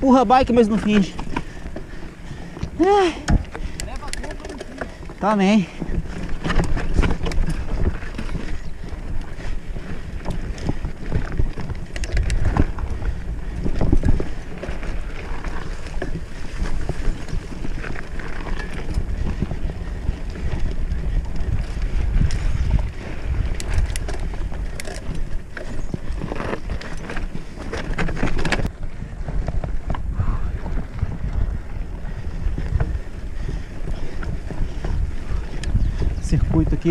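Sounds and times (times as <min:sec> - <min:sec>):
bike rattling over bumps: 0:00.0 - 0:36.9
wind buffeting microphone: 0:00.0 - 0:36.9.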